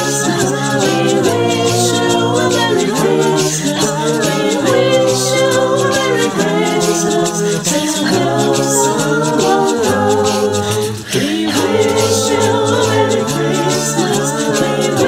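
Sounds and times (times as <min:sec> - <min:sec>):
voices singing a cappella: 0:00.0 - 0:15.0.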